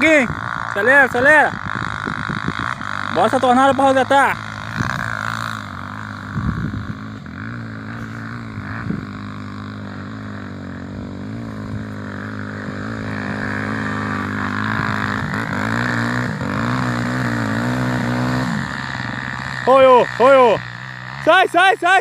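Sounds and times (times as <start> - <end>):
motorcycle engine revving uphill: 0.0 - 22.0.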